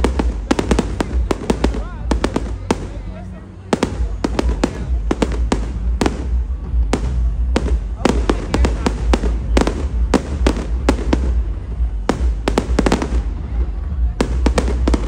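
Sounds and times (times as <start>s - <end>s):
deep rumble: 0.0s - 15.0s
fireworks bursting: 0.0s - 15.0s.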